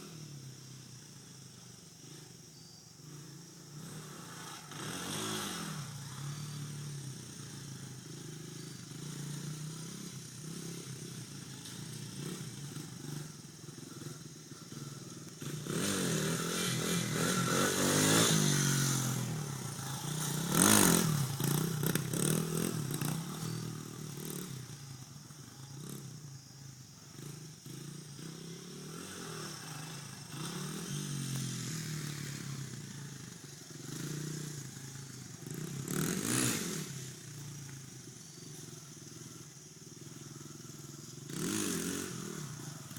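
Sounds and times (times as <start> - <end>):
dirt bike engine revving: 3.0 - 26.2, 27.1 - 42.9.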